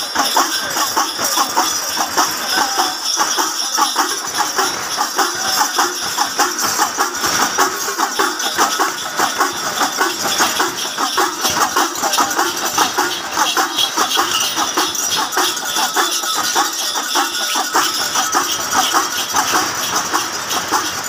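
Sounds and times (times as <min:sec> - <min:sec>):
hand drums in fast rhythm: 0:00.0 - 0:21.0
small brass cymbals ringing: 0:00.0 - 0:21.0.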